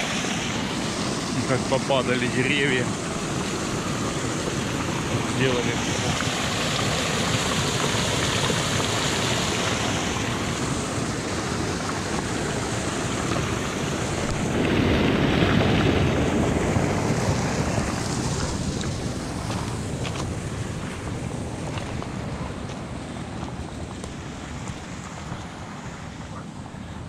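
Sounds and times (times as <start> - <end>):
water pouring into pool: 0.0 - 22.0
wind on microphone: 0.0 - 27.0.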